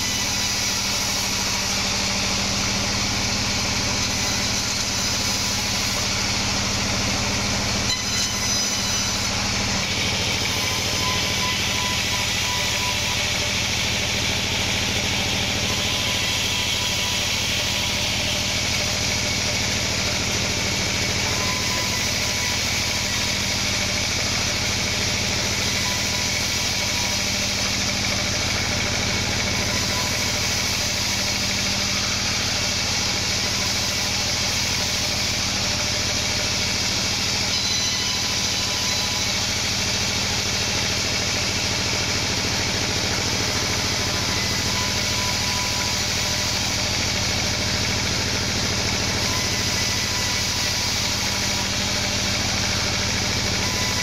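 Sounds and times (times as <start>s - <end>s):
band saw blade cutting wood: 0.0s - 54.0s.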